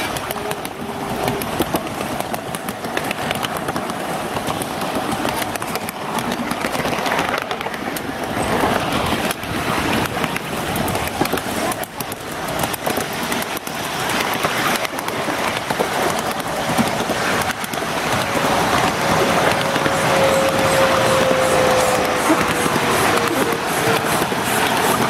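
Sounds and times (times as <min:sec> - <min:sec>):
miniature train rumbling on track: 0:00.0 - 0:25.0.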